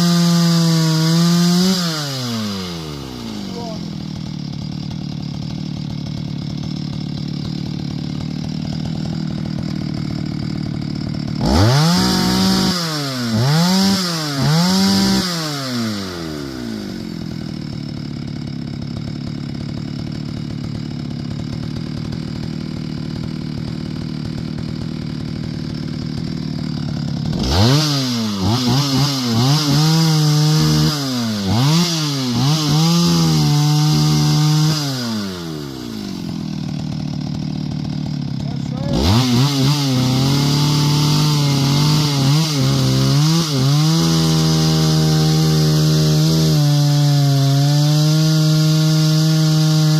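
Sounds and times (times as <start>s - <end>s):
chainsaw idling and revving: 0.0s - 49.9s.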